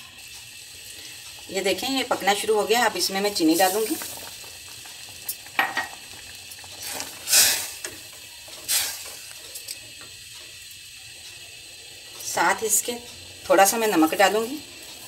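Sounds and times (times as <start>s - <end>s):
pot simmering bubbling: 0.0s - 15.0s.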